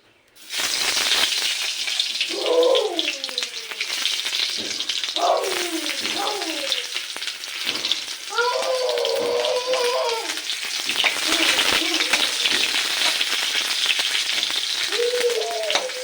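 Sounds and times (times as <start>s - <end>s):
food sizzling in a hot pan: 0.4s - 16.0s.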